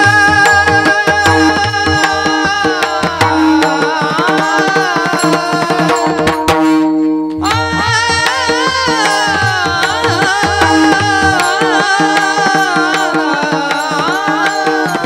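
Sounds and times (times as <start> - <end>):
person singing: 0.0 - 6.6, 7.3 - 15.0
held accompanying tones: 0.0 - 15.0
tabla strokes: 0.0 - 15.0.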